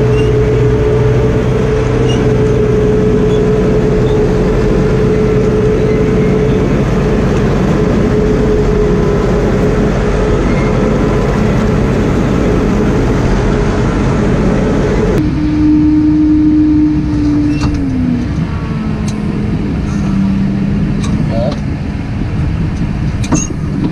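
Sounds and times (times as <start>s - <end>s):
constant whine: 0.0s - 23.9s
tractor engine running: 0.0s - 23.9s.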